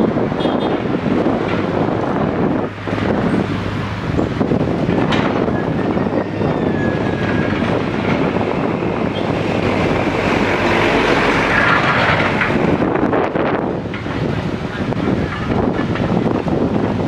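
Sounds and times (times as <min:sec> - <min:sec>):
diesel engine working: 0:00.0 - 0:17.0
vehicles passing: 0:00.0 - 0:17.0.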